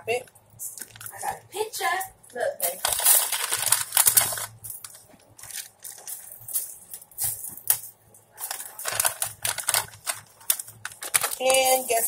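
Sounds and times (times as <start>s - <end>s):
plastic bag crinkling: 0.7s - 1.5s, 2.4s - 12.0s.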